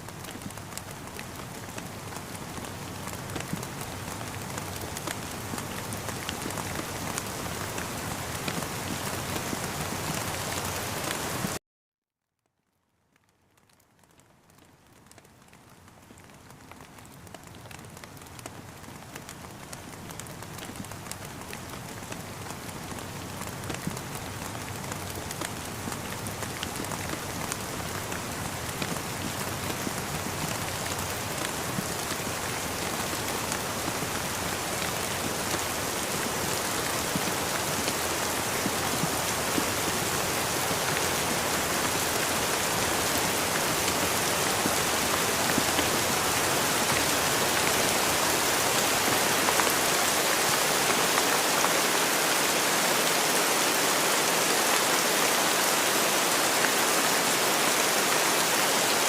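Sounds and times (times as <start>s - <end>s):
steady rain falling: 0.0s - 11.6s, 12.5s - 59.0s.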